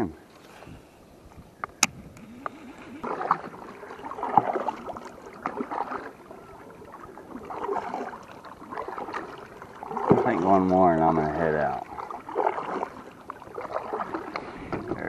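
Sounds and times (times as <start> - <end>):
water swishing: 2.1 - 15.0
kayak paddle strokes in water: 2.2 - 15.0.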